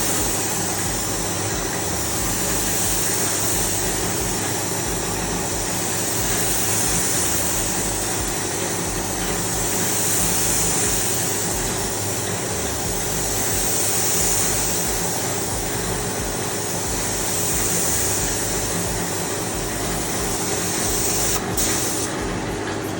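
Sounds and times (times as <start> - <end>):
machine hissing: 0.0 - 22.9
machine humming: 0.0 - 22.9.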